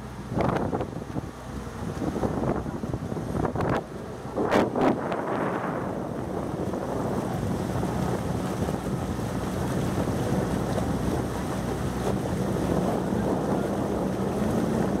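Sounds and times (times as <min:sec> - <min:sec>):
motorboat engine running: 0:00.0 - 0:15.0
water rushing: 0:00.0 - 0:15.0
wind buffeting microphone: 0:00.0 - 0:15.0.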